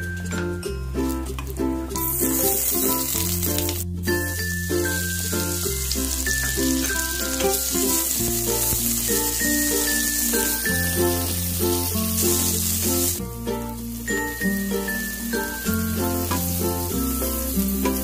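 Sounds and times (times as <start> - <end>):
background music with bass: 0.0 - 18.0
hot oil sizzling: 0.0 - 18.0.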